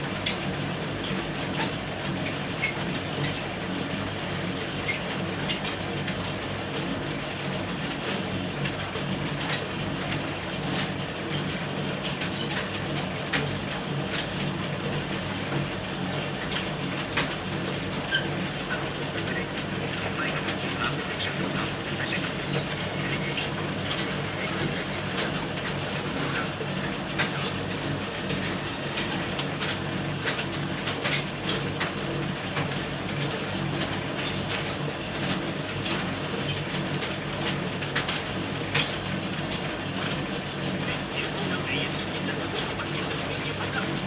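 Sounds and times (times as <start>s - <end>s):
machine humming: 0.0s - 44.0s.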